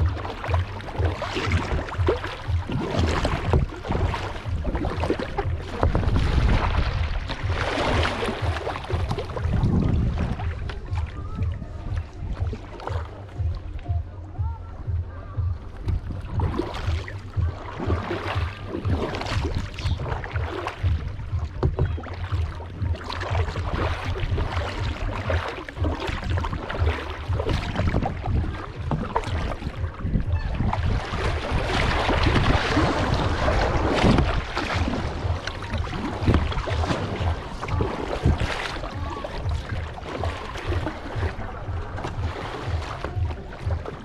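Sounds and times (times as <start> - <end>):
kayak paddle splashing in water: 0.0 - 14.0, 15.5 - 44.0
wind rumble on microphone: 0.0 - 44.0.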